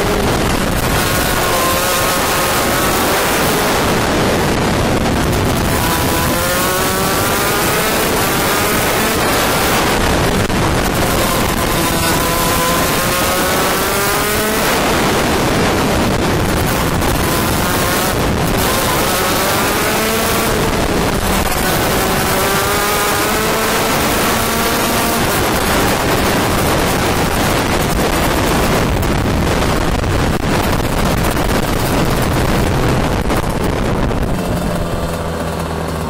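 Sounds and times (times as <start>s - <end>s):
kart engine revving: 0.0s - 36.0s
wind rush on microphone: 0.0s - 36.0s.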